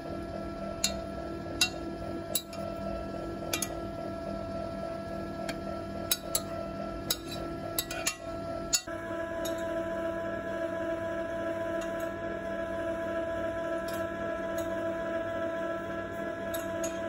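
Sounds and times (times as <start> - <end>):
ice cream maker motor hum: 0.0 - 17.0.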